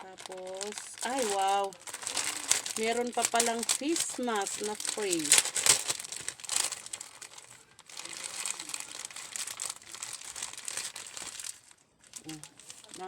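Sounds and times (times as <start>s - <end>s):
crinkly packaging crackling: 0.0s - 13.0s.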